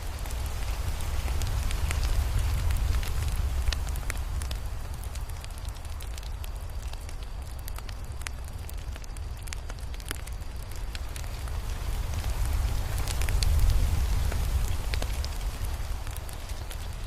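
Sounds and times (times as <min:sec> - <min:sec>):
fire pops and crackles: 0:00.0 - 0:17.0
low fire rumble: 0:00.0 - 0:17.0.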